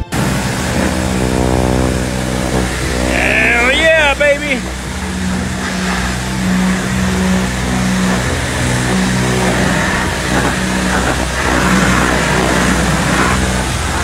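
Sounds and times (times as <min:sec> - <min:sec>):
engine hum: 0:00.0 - 0:14.0
pressure washer spray hissing: 0:00.0 - 0:14.0.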